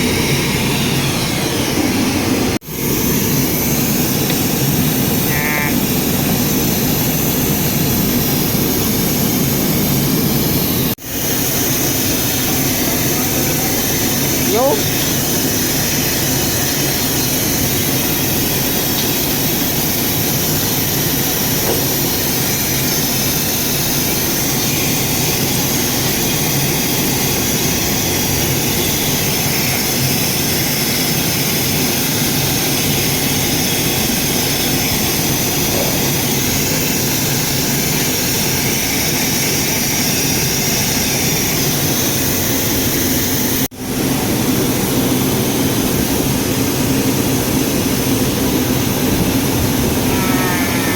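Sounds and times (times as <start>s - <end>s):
loud mechanical drone: 0.0s - 50.9s.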